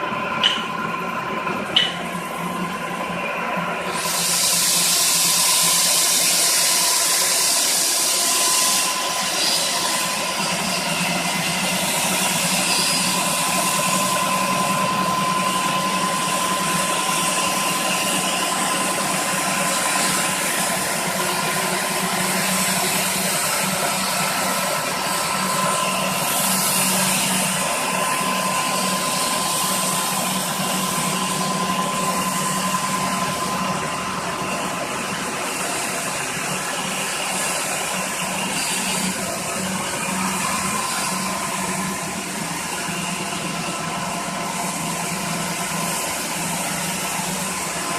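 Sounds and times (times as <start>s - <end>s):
floor grinding machine running: 0.0s - 47.9s.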